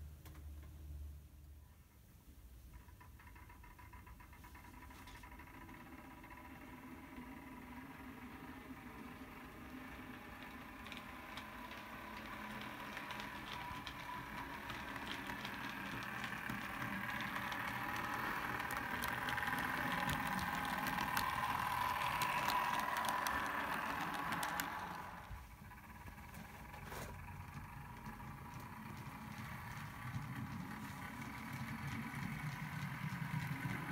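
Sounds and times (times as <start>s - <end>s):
wheels clicking on rails: 2.5s - 33.9s
model train motor whine: 3.1s - 33.9s.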